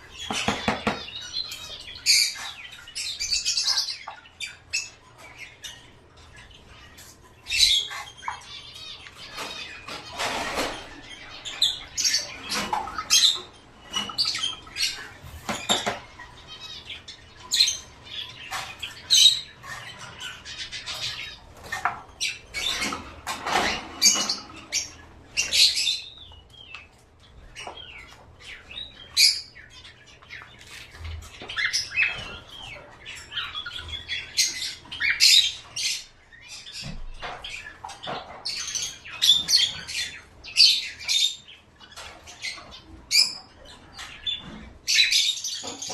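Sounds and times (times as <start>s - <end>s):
birds chirping: 0.0s - 45.9s.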